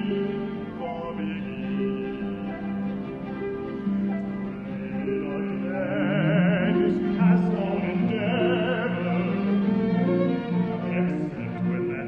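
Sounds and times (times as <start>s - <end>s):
baritone singing with vibrato: 0.0s - 3.4s, 4.4s - 9.9s, 10.6s - 12.0s
harps and bowed strings: 0.0s - 12.0s.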